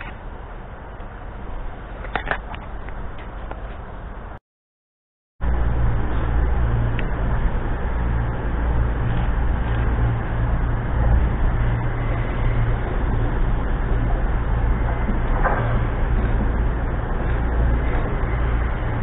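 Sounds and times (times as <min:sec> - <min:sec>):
steady low rumble with hum: 0:00.0 - 0:04.4, 0:05.4 - 0:19.0.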